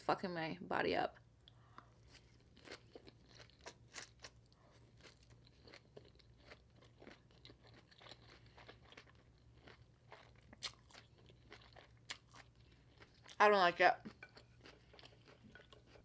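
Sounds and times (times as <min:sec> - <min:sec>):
close chewing crunches: 0:02.1 - 0:13.4, 0:14.1 - 0:16.0.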